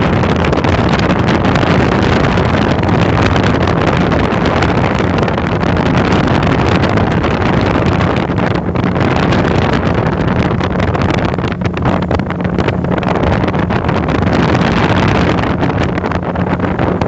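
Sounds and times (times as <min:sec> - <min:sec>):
speedboat engine hum: 0:00.0 - 0:17.0
wind buffeting microphone: 0:00.0 - 0:17.0.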